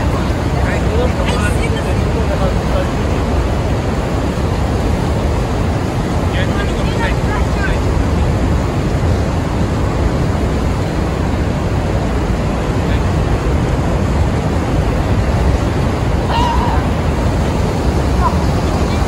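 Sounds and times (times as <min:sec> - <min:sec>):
roar of waterfall: 0:00.0 - 0:19.0.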